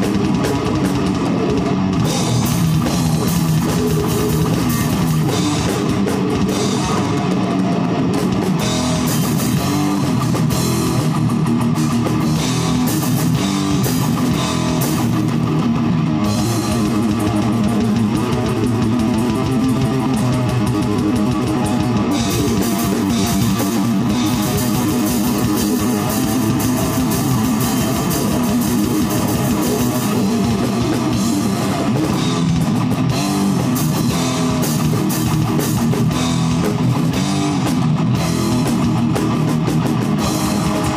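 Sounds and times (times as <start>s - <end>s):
fast drums with crashing cymbals: 0.0s - 40.9s
heavy metal band playing: 0.0s - 40.9s.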